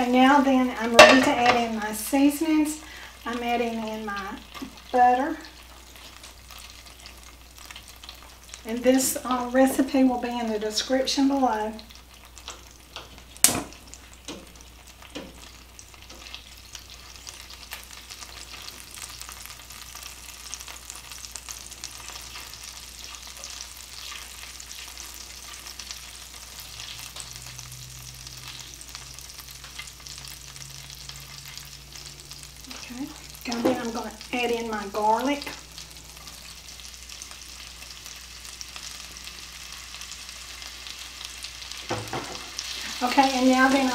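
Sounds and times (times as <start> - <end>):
butter sizzling in a skillet: 0.0 - 43.9.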